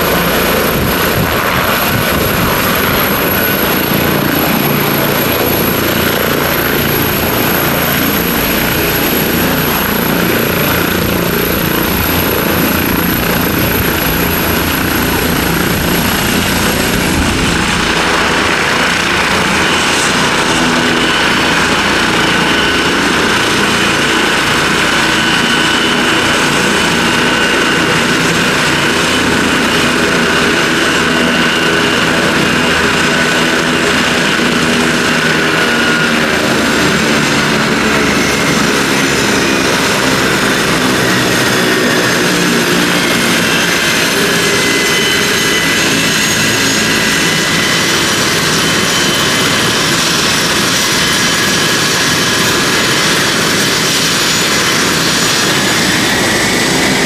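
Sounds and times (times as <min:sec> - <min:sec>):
helicopter engines and rotor: 0:00.0 - 0:57.0
mid-pitched turbine whine: 0:00.0 - 0:57.0.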